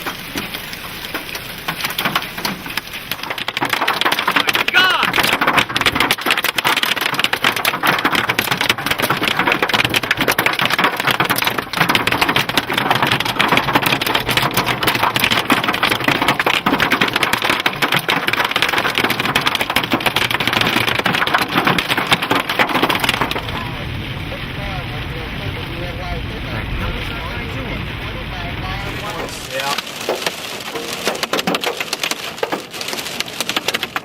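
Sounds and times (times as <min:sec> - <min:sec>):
hail pounding on a car: 0:00.0 - 0:34.0.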